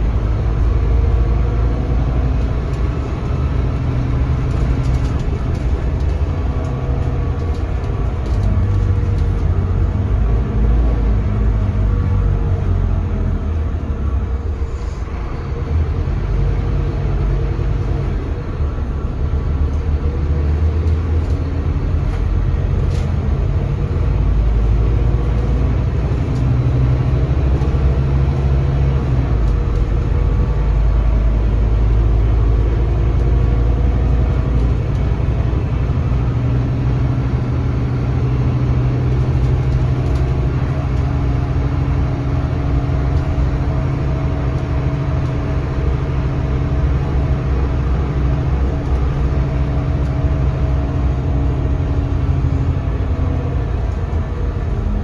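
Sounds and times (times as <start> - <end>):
bus diesel engine running: 0.0 - 55.0
road rumble: 0.0 - 55.0.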